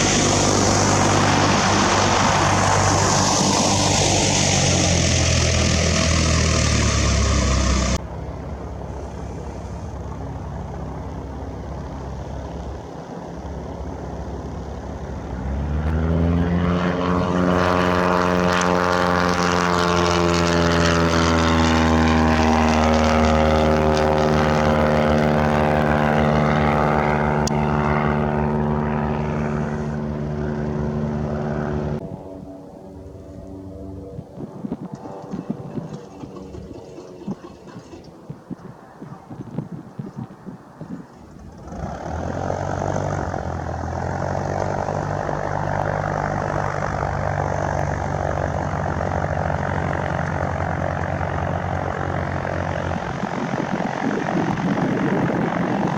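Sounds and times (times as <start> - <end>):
propeller airplane passing: 0.0 - 55.9
propeller engine drone: 0.0 - 55.9.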